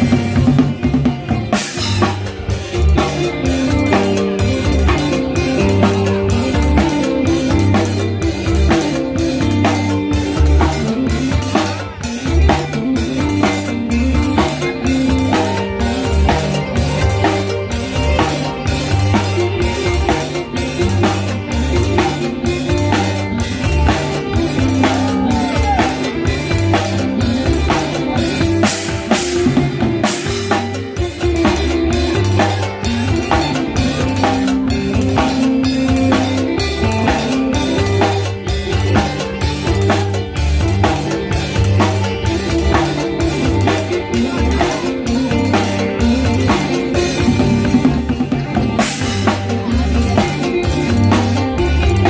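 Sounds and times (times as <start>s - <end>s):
drum kit beat: 0.0s - 52.0s
lute melody: 0.0s - 52.0s.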